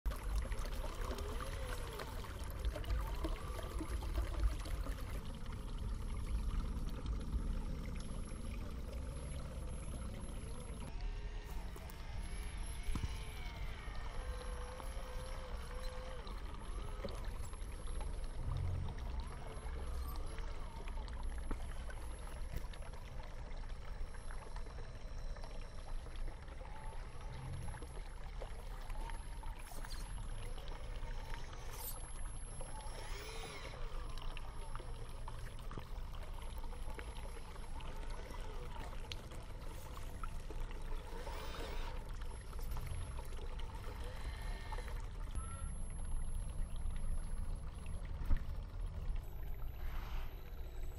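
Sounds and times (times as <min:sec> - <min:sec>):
running water: 0:00.1 - 0:50.9.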